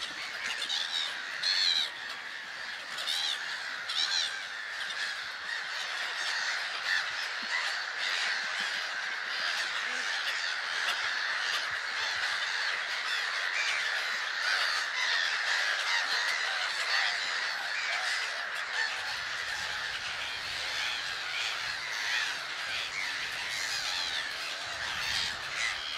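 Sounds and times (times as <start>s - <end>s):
chorus of waterbirds calling: 0.0s - 25.9s.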